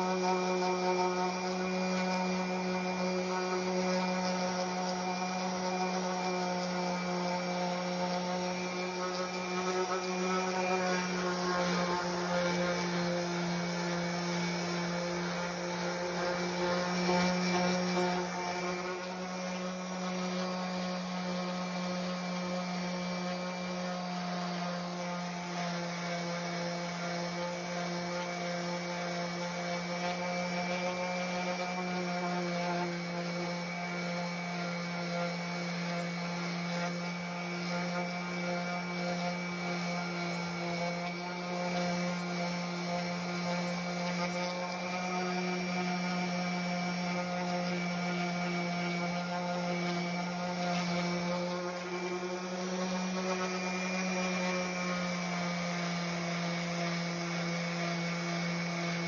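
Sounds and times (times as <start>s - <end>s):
orbital sander humming: 0.0s - 59.0s.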